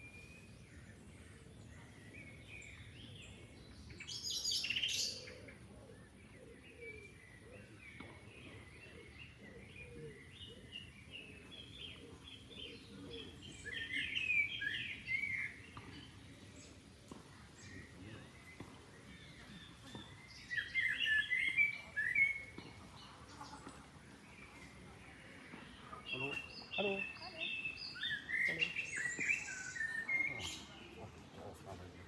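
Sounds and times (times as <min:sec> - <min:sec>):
faint low background noise: 0:00.0 - 0:32.0
songbirds singing and chirping: 0:00.0 - 0:32.0.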